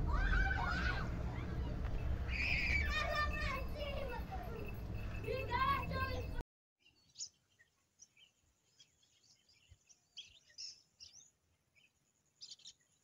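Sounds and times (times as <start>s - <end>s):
faint bird chirps: 1.3s - 13.0s.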